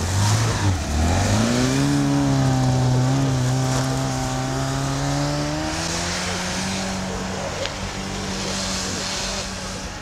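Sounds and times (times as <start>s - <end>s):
car engine revving: 0.0s - 10.0s
wheels churning through snow: 0.0s - 10.0s.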